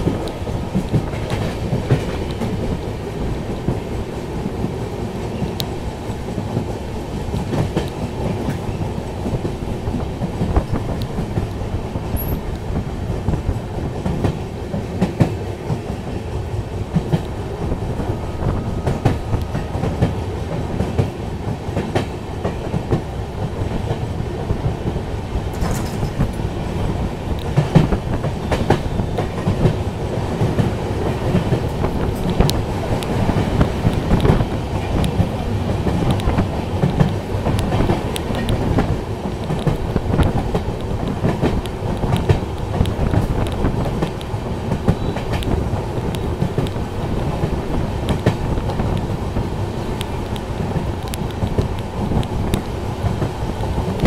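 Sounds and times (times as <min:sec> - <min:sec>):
train wheels rumbling on track: 0:00.0 - 0:54.0
wheels clicking over rail joints: 0:00.0 - 0:54.0.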